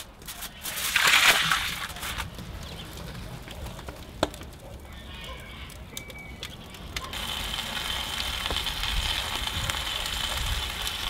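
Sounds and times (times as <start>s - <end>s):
fire popping: 0.0s - 11.0s
wood fire crackling: 0.0s - 11.0s.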